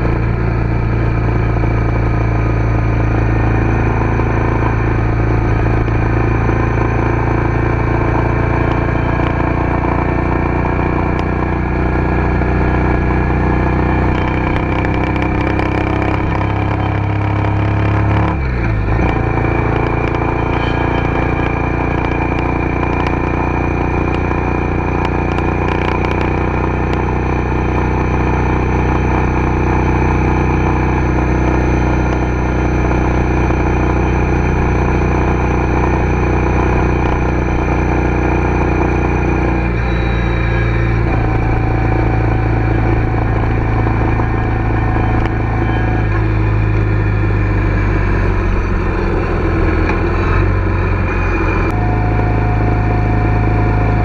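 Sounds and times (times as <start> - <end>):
car engine drone: 0.0 - 54.0
tyre and road rumble: 0.0 - 54.0.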